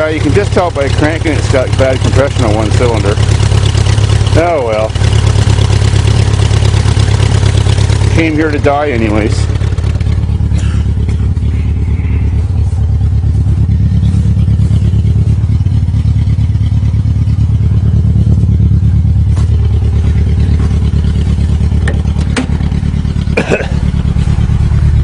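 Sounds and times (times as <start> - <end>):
small car engine running rough: 0.0 - 25.0.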